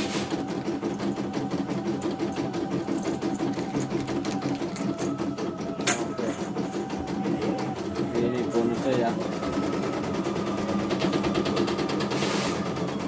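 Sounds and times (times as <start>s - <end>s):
steady motor hum: 0.0s - 13.0s.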